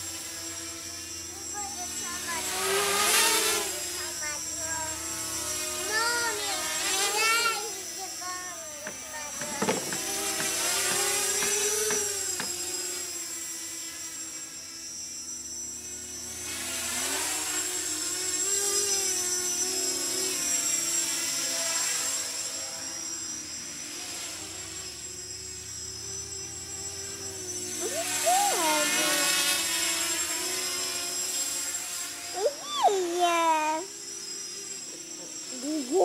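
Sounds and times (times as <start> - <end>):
quadcopter motors buzzing: 0.0 - 36.0.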